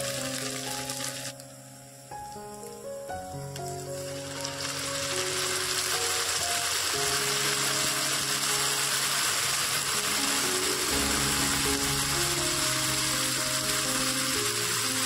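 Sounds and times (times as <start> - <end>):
paste sizzling in hot oil: 0.0 - 2.0, 3.6 - 15.0
background music with melody: 0.0 - 15.0.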